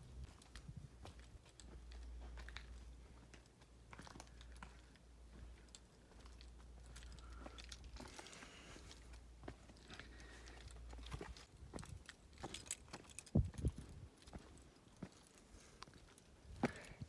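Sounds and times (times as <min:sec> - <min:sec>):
footsteps on rock and grit: 0:00.2 - 0:15.4.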